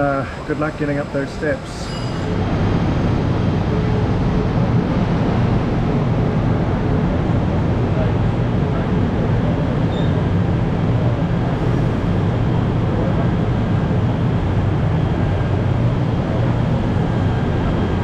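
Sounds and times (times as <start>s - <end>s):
electric train rumble and hum: 0.0s - 18.0s.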